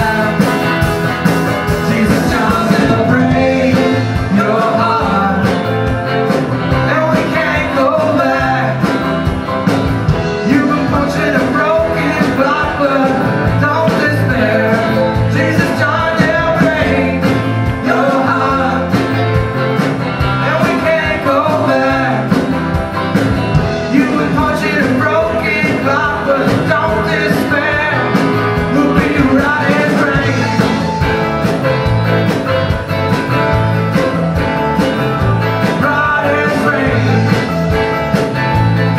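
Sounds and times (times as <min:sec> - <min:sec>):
live country-rock band: 0:00.0 - 0:38.9.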